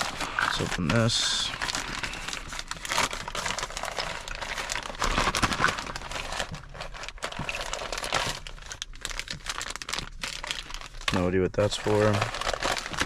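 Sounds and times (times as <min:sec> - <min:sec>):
crinkly packaging rustling: 0:00.0 - 0:13.0.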